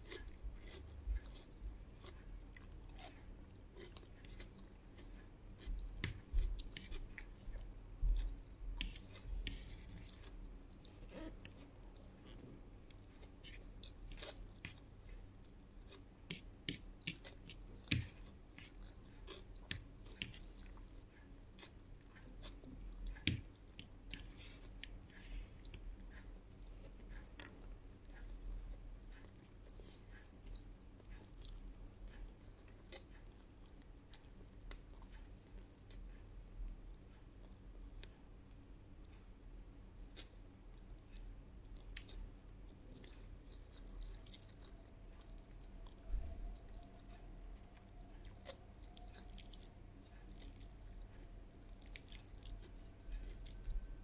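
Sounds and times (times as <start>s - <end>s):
person chewing food: 0.0s - 36.3s, 36.9s - 54.0s.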